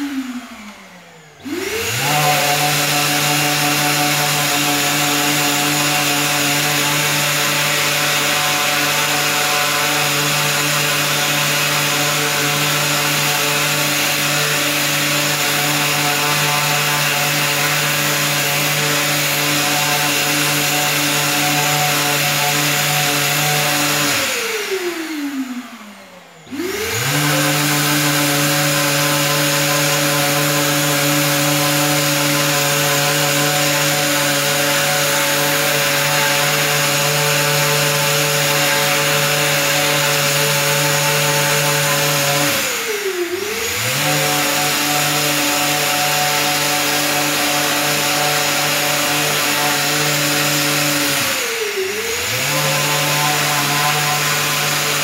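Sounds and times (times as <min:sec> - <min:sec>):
electric orbital sander running: 0:00.0 - 0:55.0.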